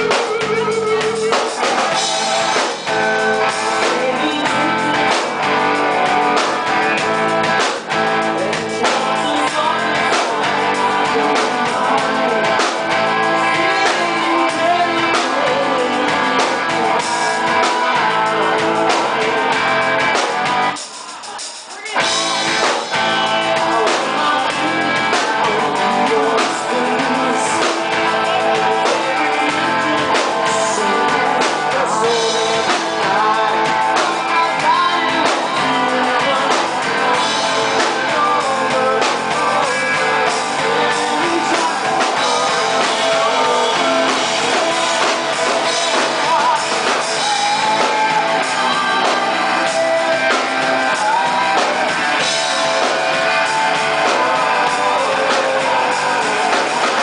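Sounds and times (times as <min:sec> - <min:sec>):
drum kit: 0:00.0 - 0:57.0
electric bass: 0:00.0 - 0:57.0
electric guitar: 0:00.0 - 0:57.0
man singing lead: 0:00.0 - 0:57.0.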